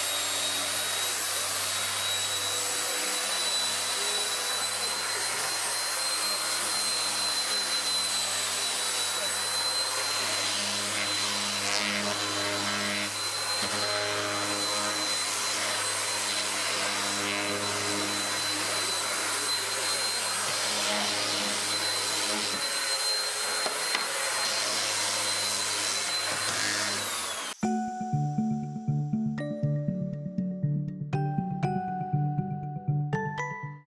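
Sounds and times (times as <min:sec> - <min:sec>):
electric wood planer cutting: 0:00.0 - 0:27.6.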